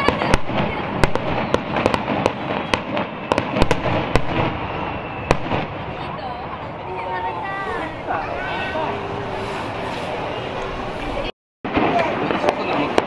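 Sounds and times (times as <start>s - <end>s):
firework crackle: 0.0s - 13.0s.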